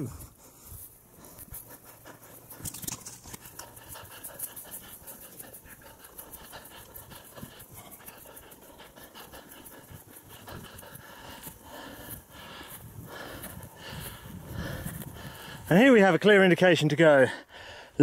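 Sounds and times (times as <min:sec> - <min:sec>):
person breathing hard: 0:00.0 - 0:15.8, 0:17.2 - 0:18.0
rustling: 0:00.1 - 0:15.0.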